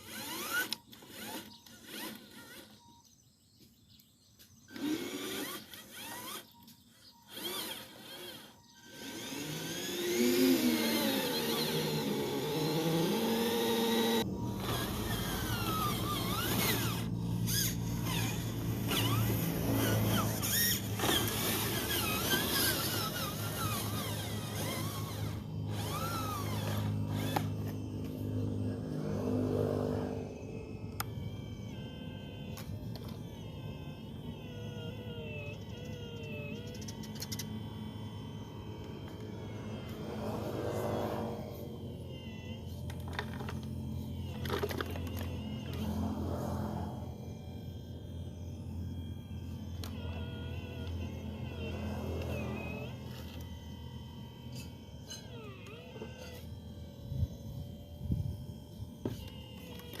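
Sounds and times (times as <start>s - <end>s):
electric motor whining: 0.0s - 60.0s.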